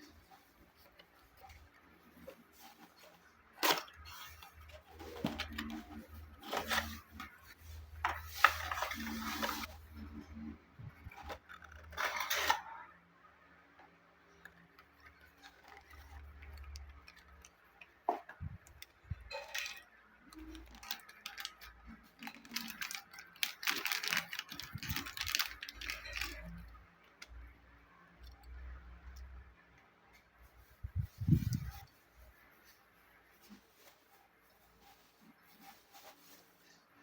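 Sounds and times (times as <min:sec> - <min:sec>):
toy car and packaging handling: 0:00.0 - 0:27.6, 0:30.5 - 0:37.0.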